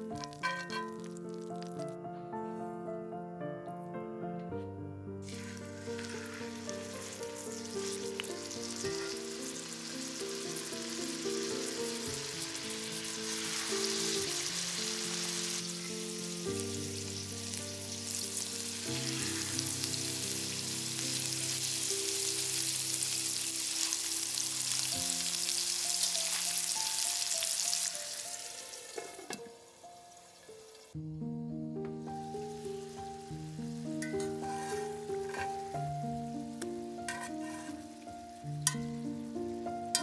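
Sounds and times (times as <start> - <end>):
chicken sizzling in butter: 0.0 - 1.9, 5.2 - 31.0, 32.0 - 40.0.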